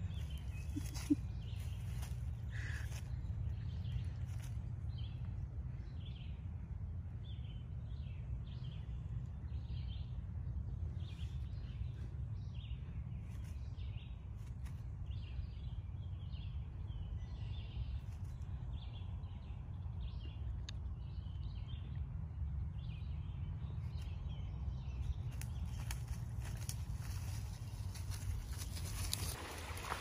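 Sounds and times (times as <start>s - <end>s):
small birds chirping: 0.0s - 30.0s
steady low rumble: 0.0s - 30.0s.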